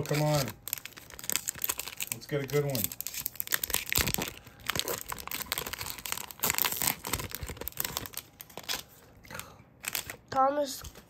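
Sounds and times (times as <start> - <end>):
card pack wrapper tearing: 0.0 - 8.9, 9.8 - 10.2
wrapper crinkling: 0.0 - 9.0, 9.8 - 10.3.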